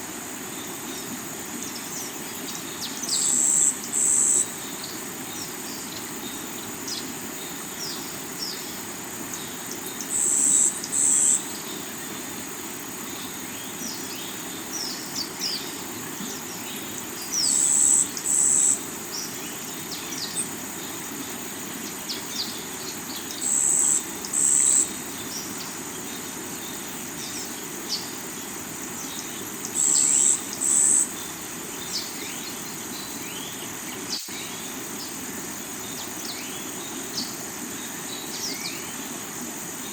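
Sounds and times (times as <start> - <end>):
high insect trill: 0.0 - 39.9
rushing river water: 0.0 - 39.9.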